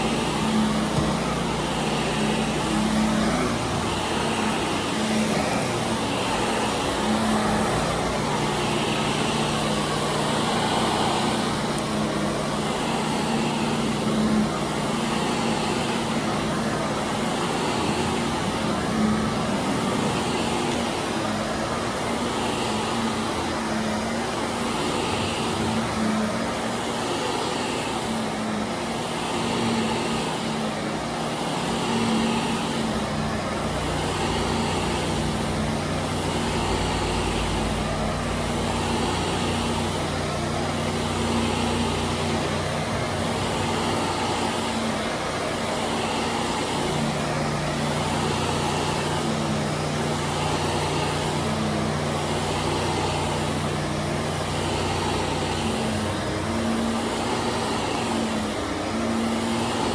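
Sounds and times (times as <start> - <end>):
power washer humming: 0.0 - 59.9
vacuum cleaner on carpet: 0.0 - 59.9.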